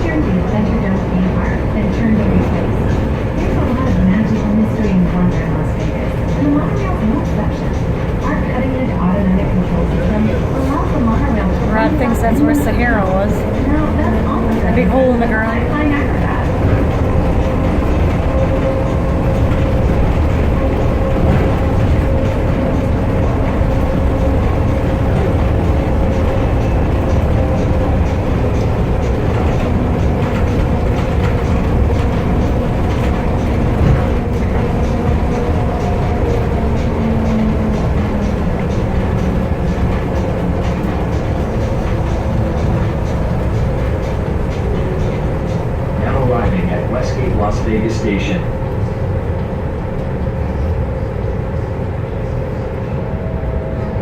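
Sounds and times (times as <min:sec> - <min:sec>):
train tyres rumbling: 0:00.0 - 0:54.0
train whine: 0:00.0 - 0:54.0.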